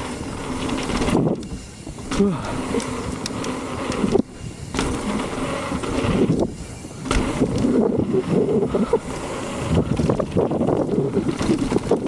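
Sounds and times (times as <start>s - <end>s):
bike rattling: 0.0s - 12.0s
bike tyres rolling over dirt: 0.0s - 12.0s.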